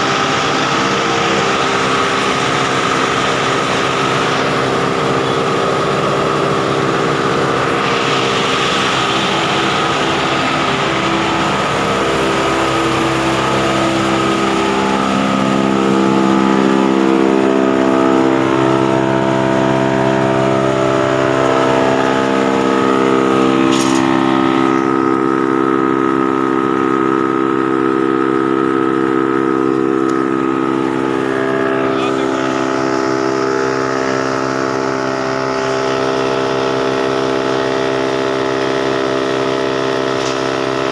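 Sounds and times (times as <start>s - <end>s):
wood chipper running: 0.0s - 40.9s.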